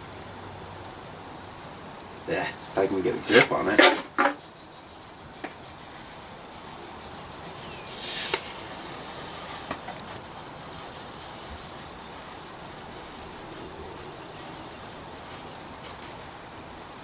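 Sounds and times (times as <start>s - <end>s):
marker scraping along steel: 2.6s - 16.2s.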